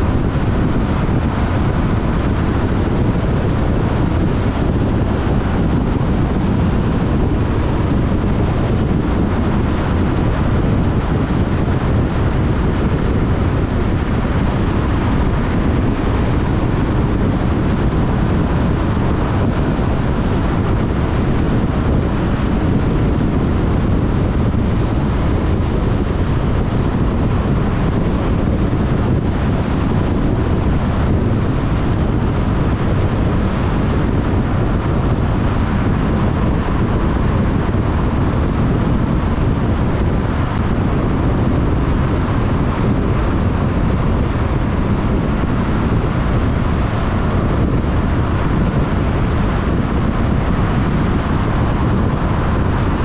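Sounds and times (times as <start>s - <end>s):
tyres rumbling on road: 0.0s - 53.0s
wind noise on microphone: 0.0s - 53.0s.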